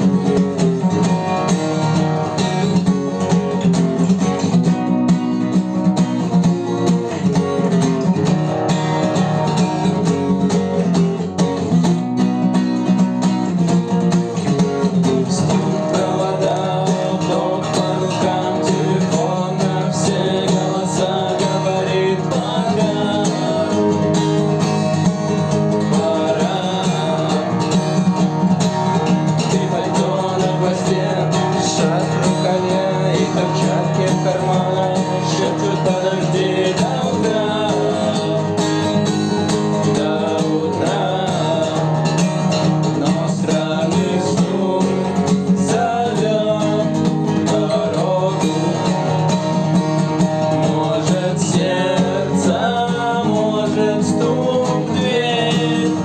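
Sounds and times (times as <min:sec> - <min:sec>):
guitar chords and picked notes: 0:00.0 - 0:56.0.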